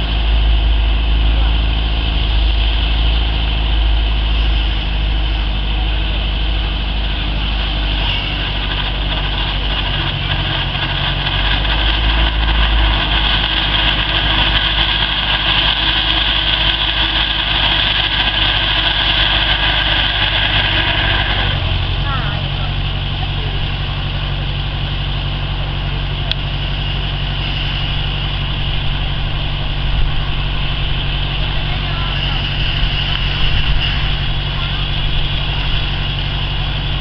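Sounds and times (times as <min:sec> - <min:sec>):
helicopter piston engine idling: 0:00.0 - 0:37.0.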